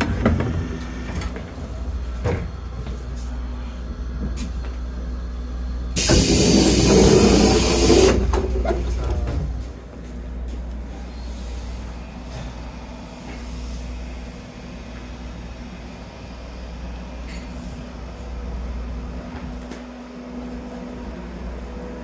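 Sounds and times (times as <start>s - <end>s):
train equipment humming: 0.0s - 22.0s.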